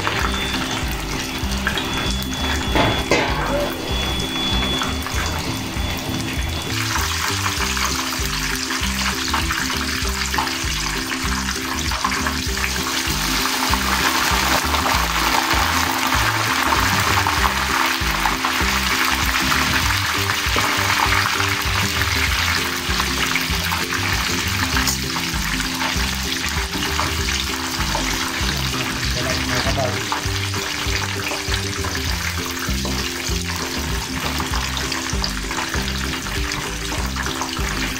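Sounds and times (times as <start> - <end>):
background music with bass line: 0.0 - 37.9
meat deep-frying in oil: 0.0 - 37.9.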